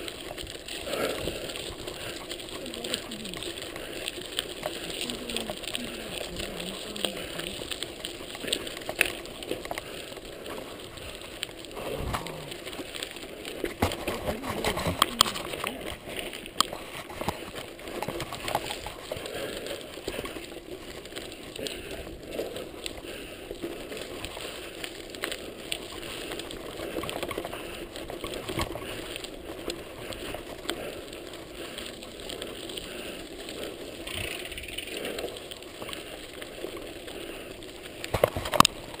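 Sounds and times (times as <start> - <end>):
bike clicks and rattles: 0.0 - 39.0
bike tyres on gravel: 0.0 - 39.0.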